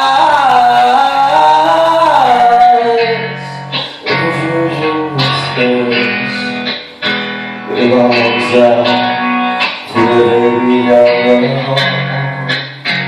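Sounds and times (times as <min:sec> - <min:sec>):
man singing: 0:00.0 - 0:06.9, 0:07.6 - 0:13.0
guitar strumming chords: 0:00.0 - 0:13.0.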